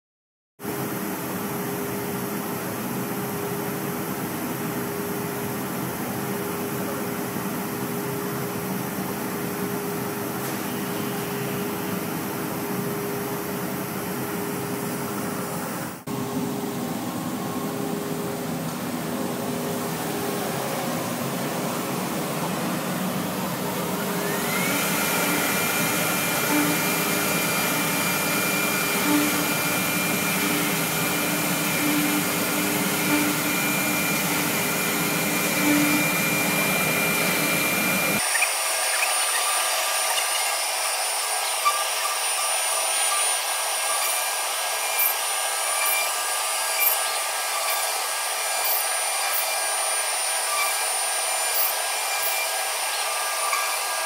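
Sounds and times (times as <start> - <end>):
machine motor high whine: 0.7 - 54.0.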